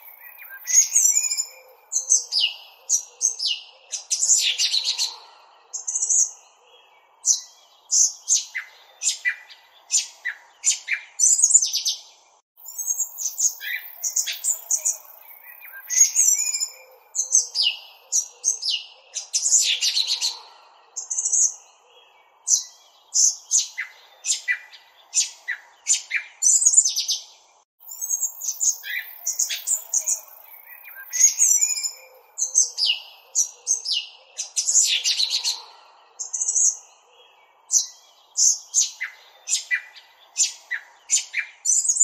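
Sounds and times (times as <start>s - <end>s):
songbird chirping: 0.0s - 42.0s.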